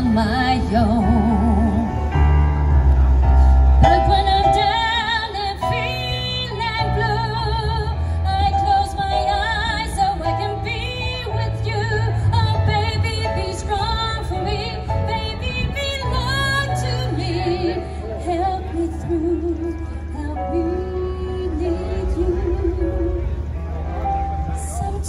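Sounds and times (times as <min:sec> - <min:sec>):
woman singing with vibrato: 0:00.0 - 0:02.0, 0:03.8 - 0:23.4
instrumental backing: 0:00.0 - 0:25.0.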